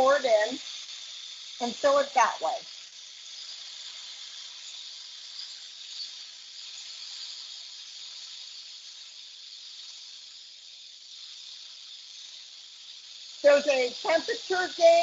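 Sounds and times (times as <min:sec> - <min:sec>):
liquid nitrogen hissing: 0:00.0 - 0:15.0.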